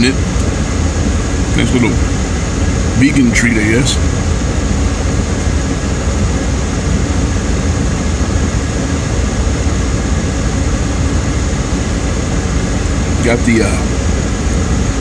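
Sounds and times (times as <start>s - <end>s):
car air conditioning blower: 0.0s - 15.0s
constant low rumble: 0.0s - 15.0s.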